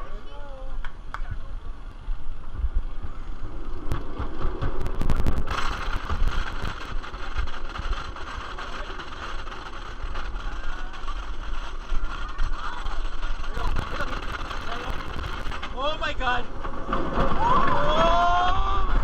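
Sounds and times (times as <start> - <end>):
roller coaster wheels rumbling: 0.0 - 19.0
roller coaster rushing clatter: 1.1 - 19.0.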